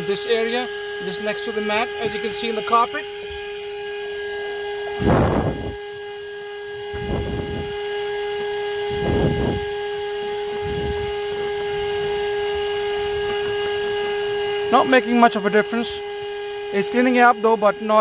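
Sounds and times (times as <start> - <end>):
handheld vacuum cleaner whining: 0.0 - 18.0.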